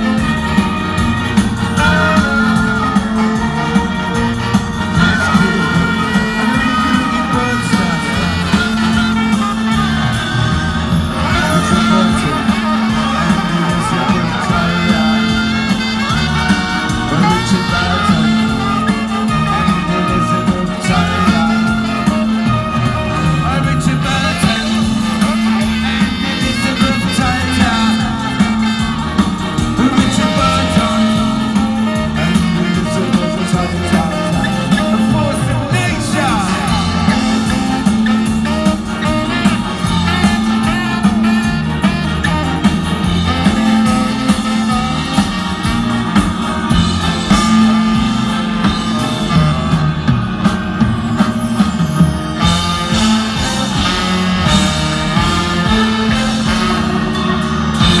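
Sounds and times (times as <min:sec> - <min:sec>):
person singing: 0:00.0 - 0:51.6
bass line: 0:00.0 - 0:58.0
ska band with orchestra: 0:00.0 - 0:58.0.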